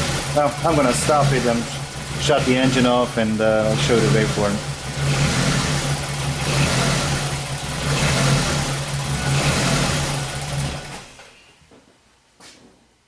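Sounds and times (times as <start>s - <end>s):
car engine misfiring: 0.0s - 11.3s.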